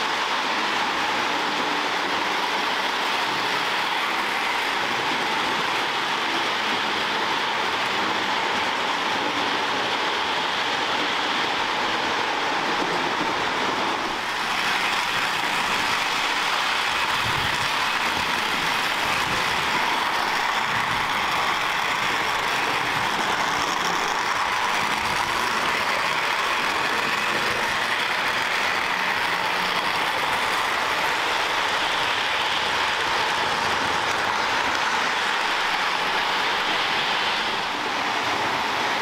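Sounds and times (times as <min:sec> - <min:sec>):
model train rumbling on track: 0:00.0 - 0:39.0.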